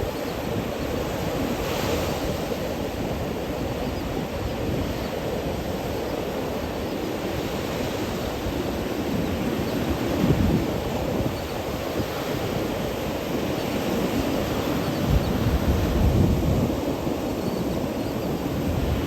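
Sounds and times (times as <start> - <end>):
ocean surf breaking on beach: 0.0 - 19.0
wind rumbling on microphone: 0.0 - 19.0.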